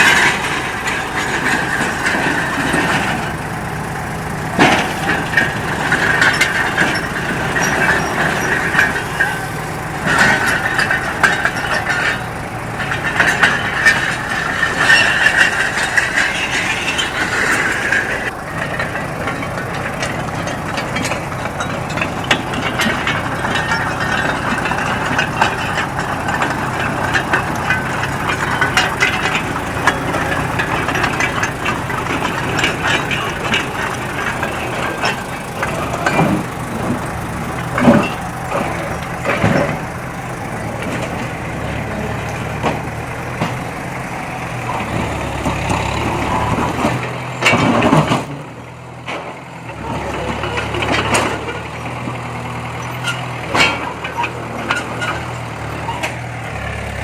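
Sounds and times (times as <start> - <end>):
metal clanks and knocks: 0.0 - 56.2
diesel machinery running: 0.0 - 57.0.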